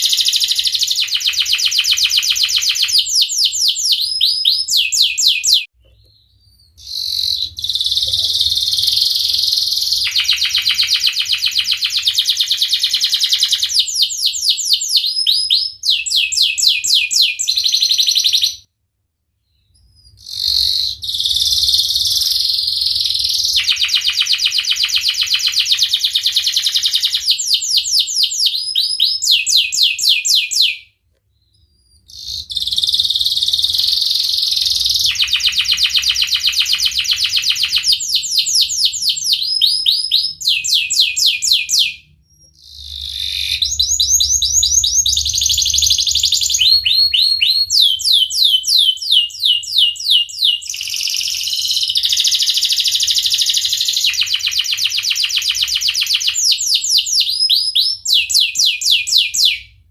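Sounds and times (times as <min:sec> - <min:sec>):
canary singing: 0:00.0 - 0:18.7, 0:19.4 - 0:59.8.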